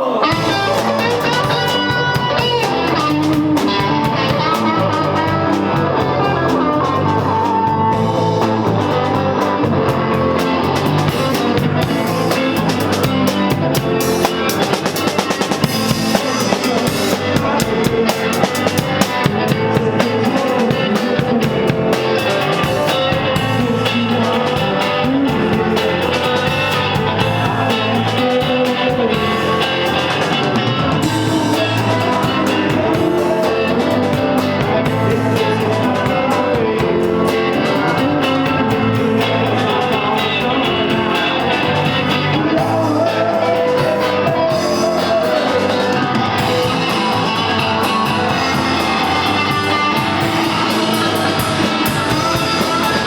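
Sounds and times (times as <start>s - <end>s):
electric guitar: 0.0s - 53.0s
rock band playing: 0.0s - 53.0s
drum kit beat: 0.2s - 53.0s.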